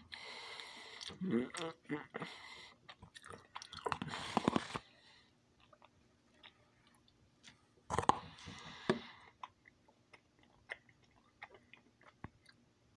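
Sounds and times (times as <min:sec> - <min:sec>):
person chewing food: 0:00.0 - 0:12.7.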